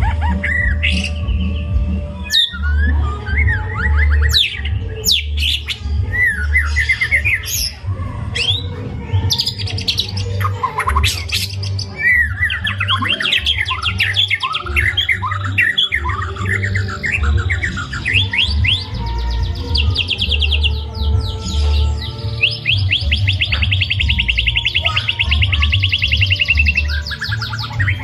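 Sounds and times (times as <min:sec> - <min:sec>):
songbird singing varied song: 0:00.4 - 0:28.0.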